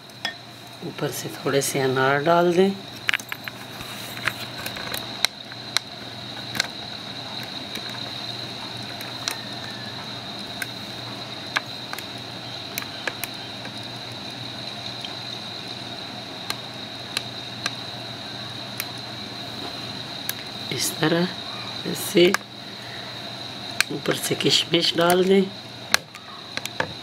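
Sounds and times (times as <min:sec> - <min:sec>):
background hum with high whine: 0:00.0 - 0:27.0.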